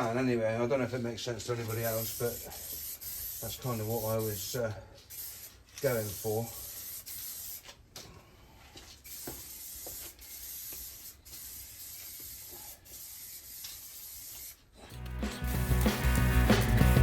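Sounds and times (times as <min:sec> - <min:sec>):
spray paint can hissing: 0:01.7 - 0:07.8, 0:09.0 - 0:17.0.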